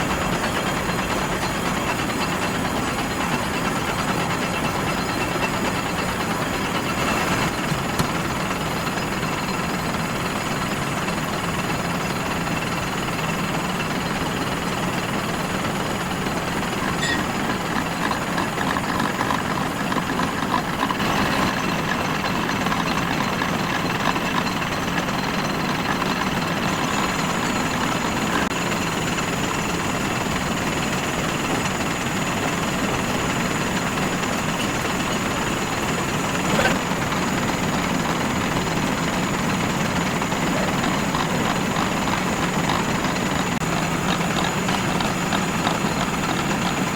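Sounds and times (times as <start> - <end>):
metalworking machinery running: 0.0 - 46.9.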